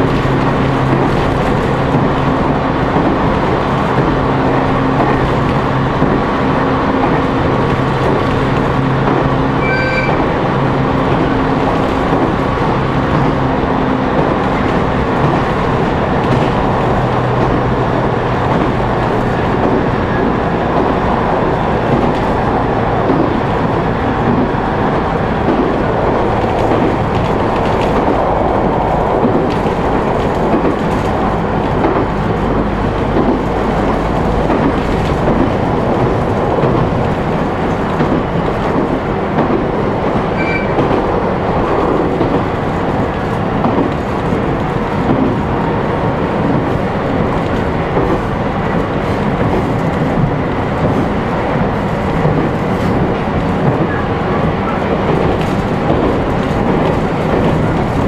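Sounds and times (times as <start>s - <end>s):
clicking from rail joints: 0.0s - 58.0s
wheel and rail noise: 0.0s - 58.0s.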